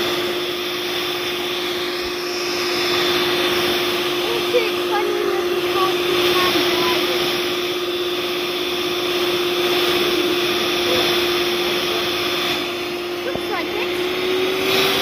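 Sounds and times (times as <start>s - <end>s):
electric motor appliance whining: 0.0s - 15.0s.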